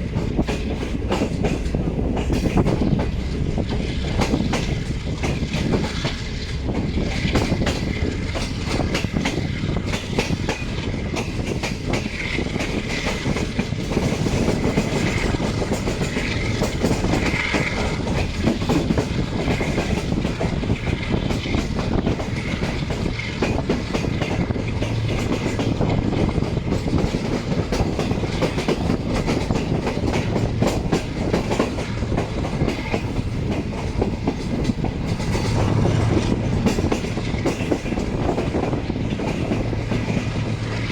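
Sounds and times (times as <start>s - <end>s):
train rumbling on rails: 0.0s - 40.9s
wheels clicking over rail joints: 0.0s - 40.9s.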